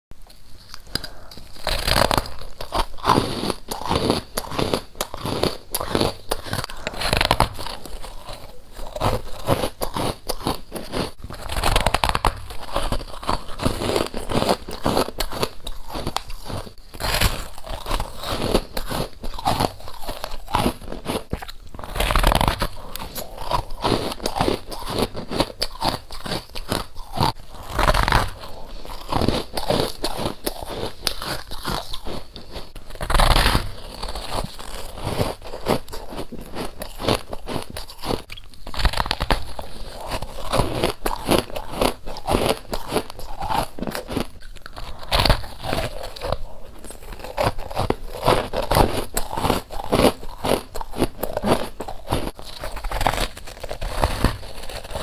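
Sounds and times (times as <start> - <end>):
person chewing crunchy frost: 0.2 - 55.0.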